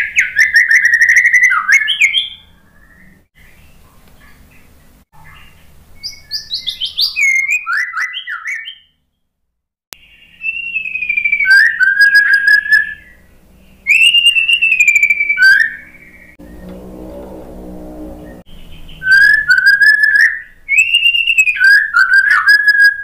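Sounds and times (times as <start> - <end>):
bird whistling song: 0.0 - 4.6, 5.2 - 9.0, 10.0 - 16.7, 18.5 - 23.0.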